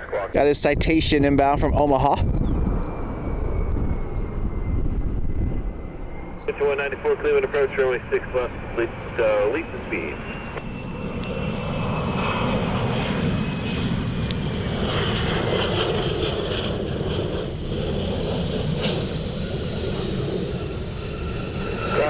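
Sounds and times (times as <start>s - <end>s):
jet airplane passing: 0.0s - 22.0s.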